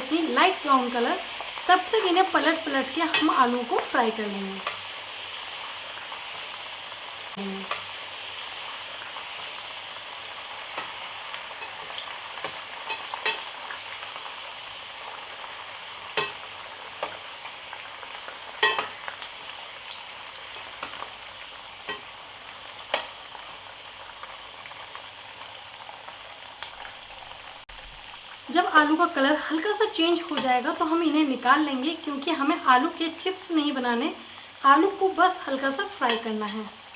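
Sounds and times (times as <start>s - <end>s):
potato slices sizzling in oil: 0.0s - 36.9s.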